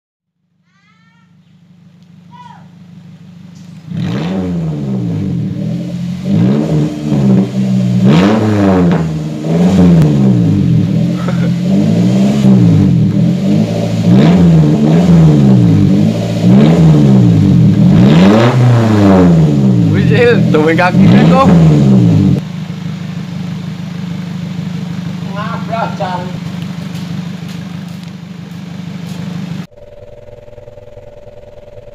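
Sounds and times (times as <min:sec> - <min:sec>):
pickup engine revving: 0:01.6 - 0:31.9.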